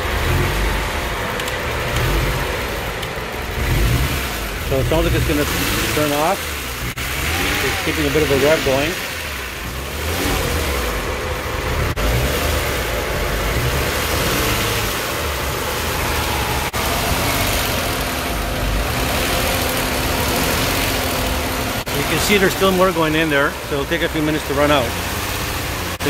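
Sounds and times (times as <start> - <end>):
car engine idling unevenly: 0.0 - 26.0.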